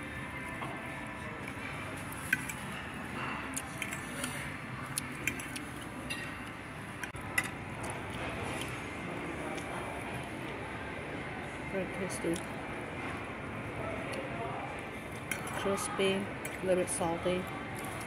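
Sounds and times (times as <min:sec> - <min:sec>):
restaurant room noise: 0:00.0 - 0:18.0.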